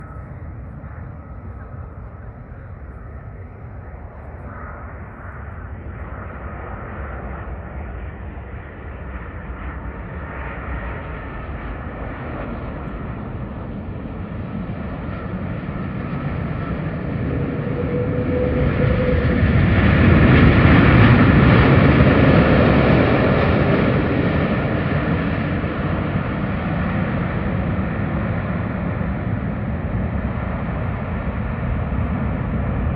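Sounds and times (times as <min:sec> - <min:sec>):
airplane engines roaring: 0:00.0 - 0:32.9.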